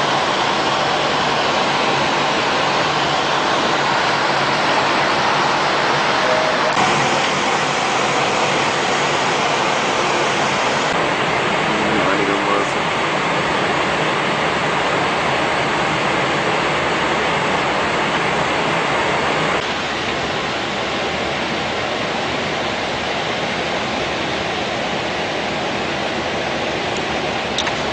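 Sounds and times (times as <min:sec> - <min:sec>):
loud rushing noise: 0:00.0 - 0:27.9.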